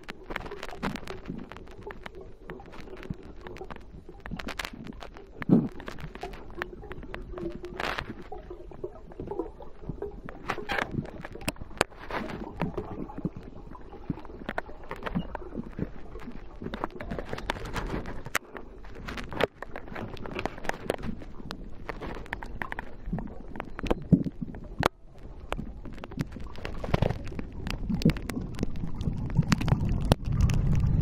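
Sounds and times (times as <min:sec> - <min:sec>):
diver bubbles gurgling: 0:00.0 - 0:31.0
underwater clicks and knocks: 0:00.0 - 0:31.0.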